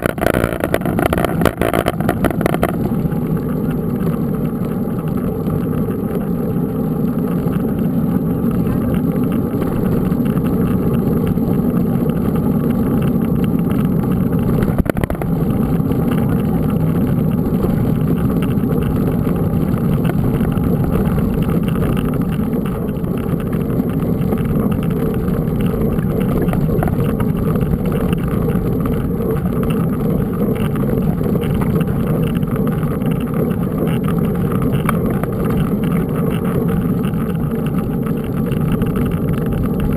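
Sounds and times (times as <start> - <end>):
mountain bike rolling noise: 0.0 - 39.9.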